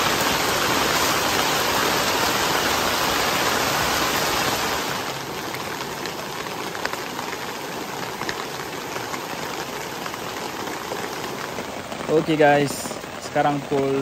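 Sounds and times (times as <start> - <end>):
heavy rain pouring: 0.0 - 14.0
rushing floodwater stream: 0.0 - 14.0.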